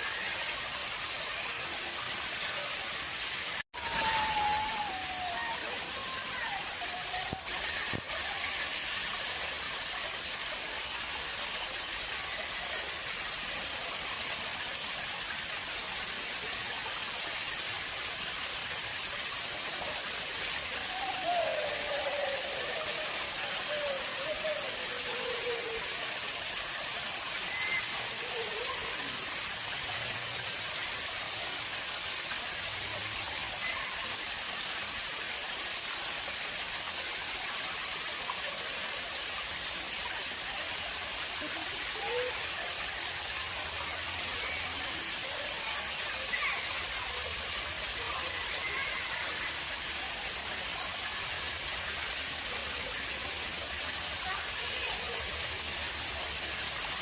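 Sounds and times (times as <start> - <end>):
water flowing into a pond: 0.0 - 57.0.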